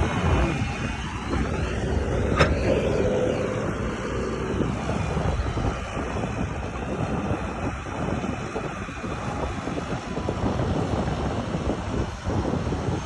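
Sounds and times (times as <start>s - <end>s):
construction machinery engine: 0.0s - 13.0s
wind buffeting microphone: 0.0s - 13.0s.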